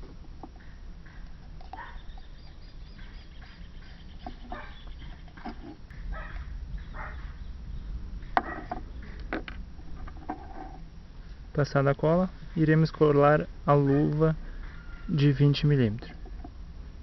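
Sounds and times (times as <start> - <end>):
steady low rumble: 0.0 - 14.7, 15.5 - 17.0.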